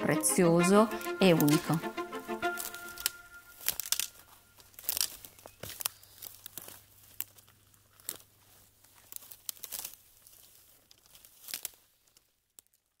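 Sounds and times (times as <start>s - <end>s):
crackles and rustles: 2.5s - 13.0s.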